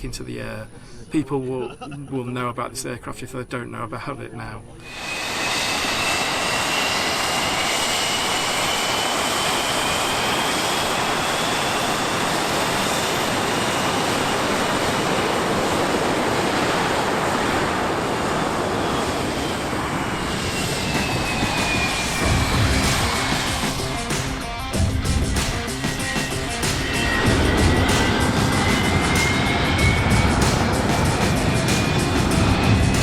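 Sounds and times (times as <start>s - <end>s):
jet engines roaring: 4.8s - 33.0s.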